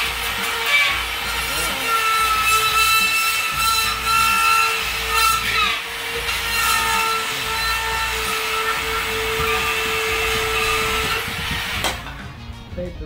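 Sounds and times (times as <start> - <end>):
rotary cutting tool whining: 0.0 - 12.3.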